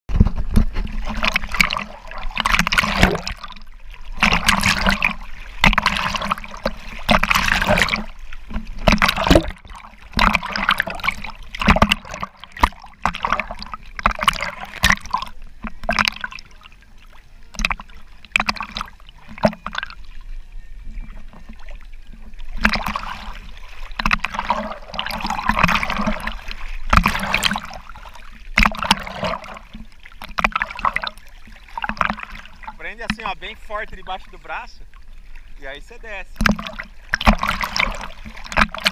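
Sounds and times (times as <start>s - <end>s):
water splashing and sloshing: 0.1s - 38.9s.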